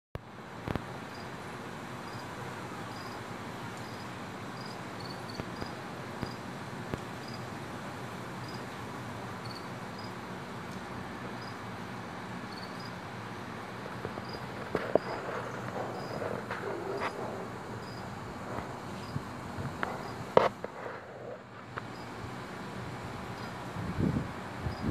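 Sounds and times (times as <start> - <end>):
steady background hiss: 0.2 - 24.9
insects chirping: 1.0 - 1.4, 2.0 - 6.5, 7.2 - 7.6, 8.4 - 10.3, 11.2 - 24.9.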